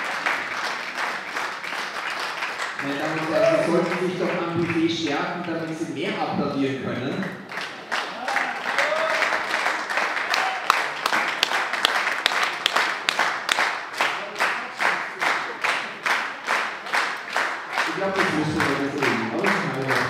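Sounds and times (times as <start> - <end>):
audience clapping in unison: 0.0 - 20.0
general applause: 0.0 - 20.0.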